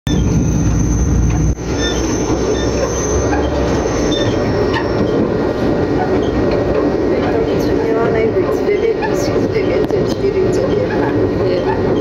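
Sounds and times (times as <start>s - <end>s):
train wheels rumbling on rails: 0.1s - 12.0s.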